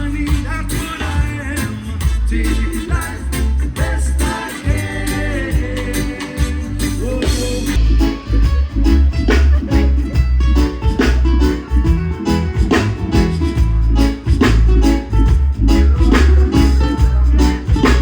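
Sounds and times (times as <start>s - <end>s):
upbeat guitar song with bass: 0.0s - 18.0s.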